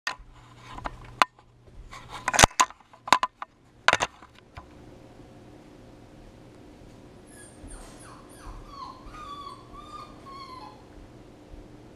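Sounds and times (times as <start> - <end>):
faint room hum: 0.1 - 11.9.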